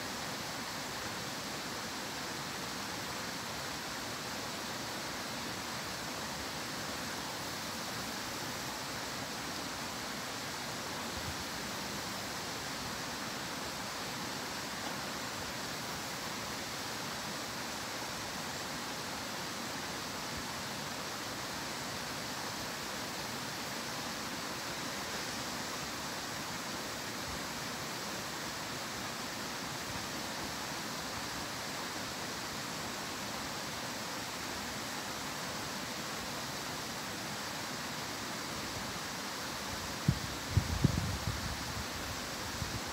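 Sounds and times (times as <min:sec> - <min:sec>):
small stream rushing: 0:00.0 - 0:42.9.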